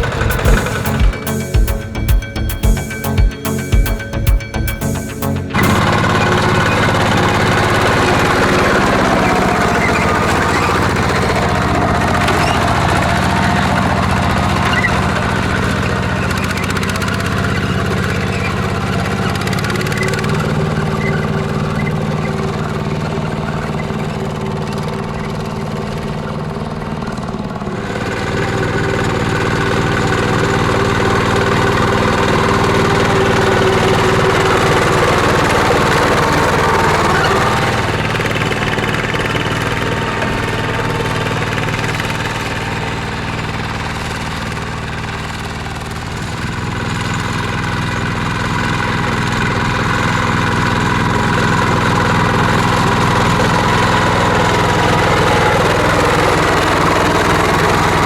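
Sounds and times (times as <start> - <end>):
mini tractor engine running: 0.0 - 58.0.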